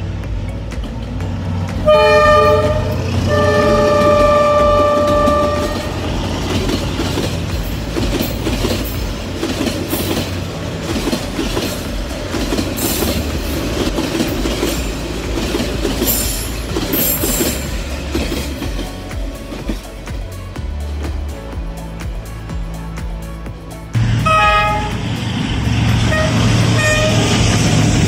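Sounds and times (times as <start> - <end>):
train wheels clattering on track: 0.0 - 23.2, 24.0 - 28.0.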